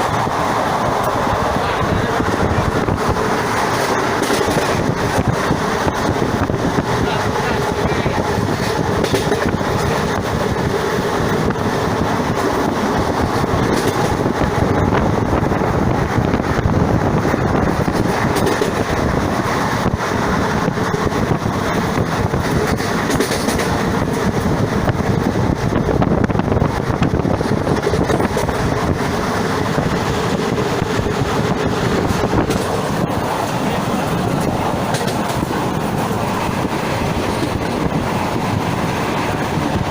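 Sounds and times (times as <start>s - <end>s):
clacks over rail joints: 0.0s - 39.9s
train wheels rumbling on rails: 0.0s - 39.9s.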